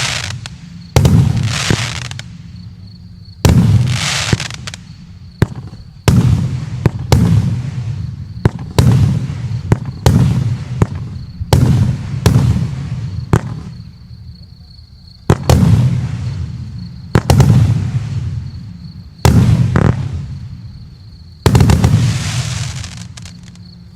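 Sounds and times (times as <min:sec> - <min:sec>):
fireworks bangs: 0:00.0 - 0:02.4, 0:03.4 - 0:13.8, 0:15.2 - 0:18.6, 0:19.2 - 0:20.6, 0:21.4 - 0:23.6.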